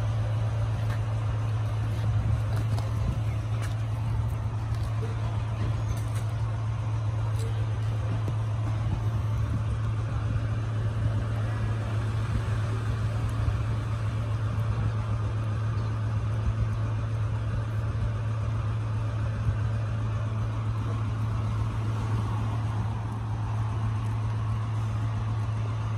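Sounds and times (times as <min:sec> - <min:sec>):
engine humming: 0:00.0 - 0:25.9.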